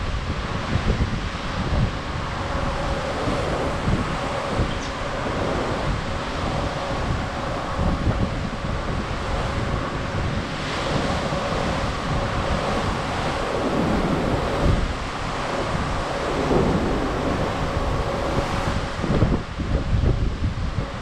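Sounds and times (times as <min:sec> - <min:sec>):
ocean swells washing: 0:00.0 - 0:21.0
wind buffeting microphone: 0:00.0 - 0:21.0.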